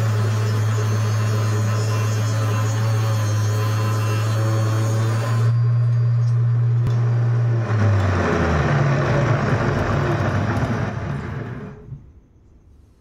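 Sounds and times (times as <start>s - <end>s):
power tool cutting wood: 0.0s - 5.6s, 6.8s - 12.0s.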